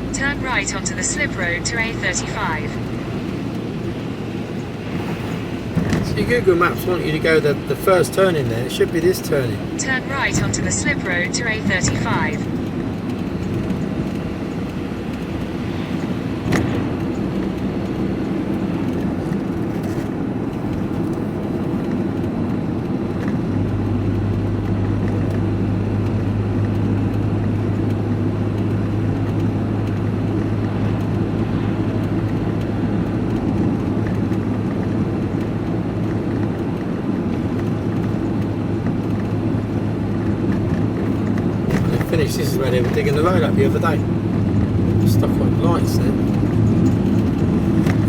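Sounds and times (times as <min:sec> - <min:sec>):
diesel engine drone: 0:00.0 - 0:48.0.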